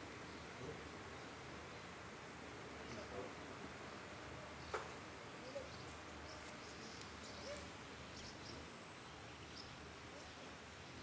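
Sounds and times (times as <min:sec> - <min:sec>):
low outdoor hiss: 0:00.0 - 0:11.0.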